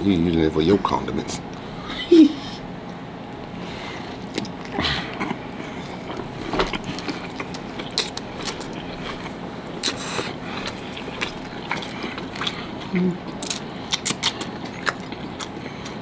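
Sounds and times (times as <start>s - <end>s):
biting and chewing food: 2.8s - 16.0s.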